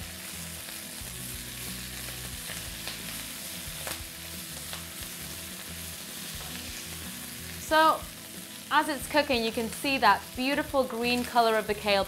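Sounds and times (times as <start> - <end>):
kale sizzling in oil: 0.0 - 12.0.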